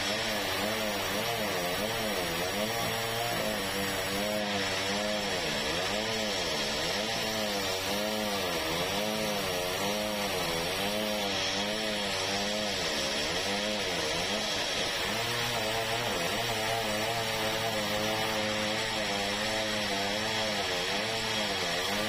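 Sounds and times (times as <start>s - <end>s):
sawmill saw cutting timber: 0.0s - 22.0s.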